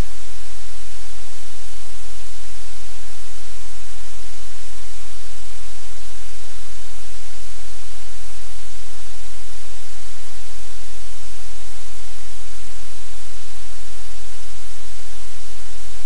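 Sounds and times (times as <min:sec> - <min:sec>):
static hiss: 0:00.0 - 0:16.0.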